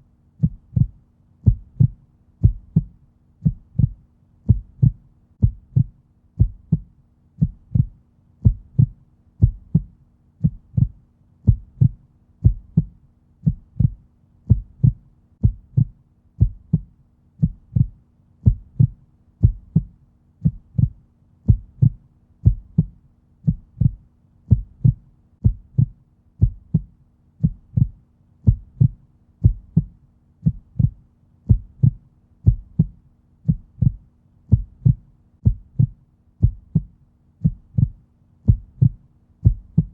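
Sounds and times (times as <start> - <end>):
heartbeat thumps: 0.4 - 39.9.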